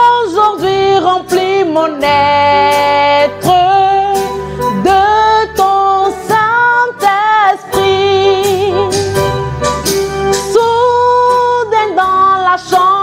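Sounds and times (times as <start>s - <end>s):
woman singing a hymn: 0.0s - 9.1s, 10.4s - 13.0s
electronic keyboard: 0.0s - 13.0s.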